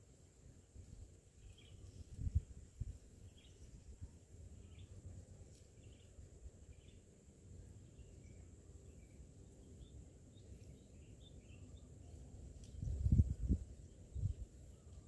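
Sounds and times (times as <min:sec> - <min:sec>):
steady high-pitched whine: 0:00.0 - 0:15.0
faint bird chirps: 0:01.4 - 0:02.5, 0:03.2 - 0:07.1, 0:07.7 - 0:15.0.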